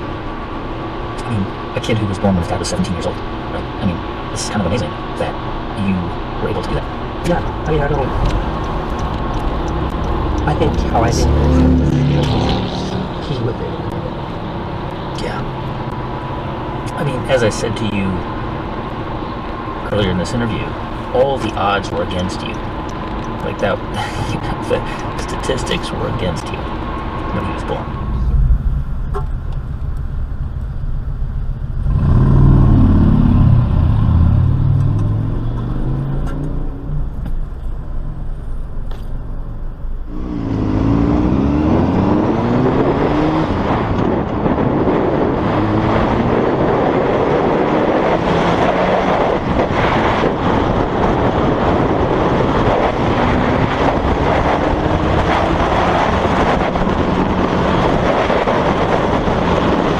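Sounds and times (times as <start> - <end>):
car engine accelerating: 0.0 - 59.9
road noise: 0.0 - 59.9.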